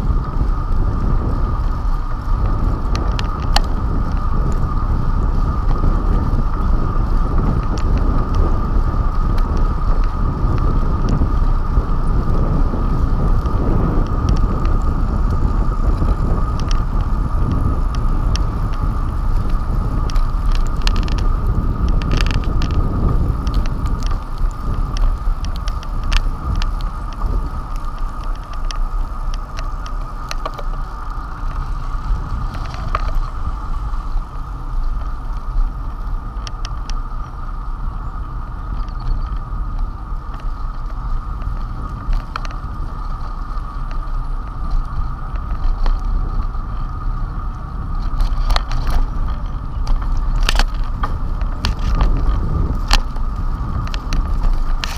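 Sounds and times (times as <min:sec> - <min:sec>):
bike rattling clicks: 0:00.0 - 0:54.9
road noise: 0:00.0 - 0:54.9
steady whine: 0:00.0 - 0:54.9
wind buffeting microphone: 0:00.0 - 0:54.9.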